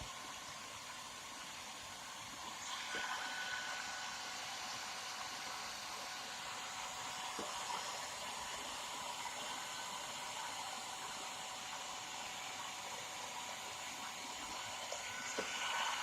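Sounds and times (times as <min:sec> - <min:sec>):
hair dryer blowing: 0:00.0 - 0:00.3, 0:02.4 - 0:16.0.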